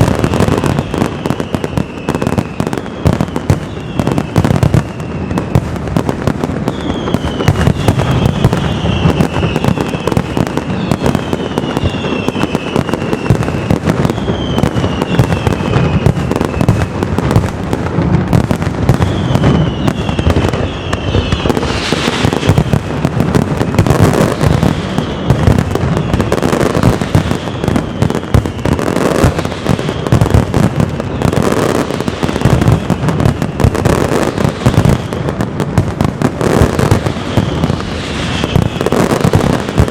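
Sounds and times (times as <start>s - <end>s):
fireworks crackling and banging: 0.0s - 39.9s
heavy firework bursts: 0.0s - 39.9s
whistling fireworks: 0.0s - 39.9s.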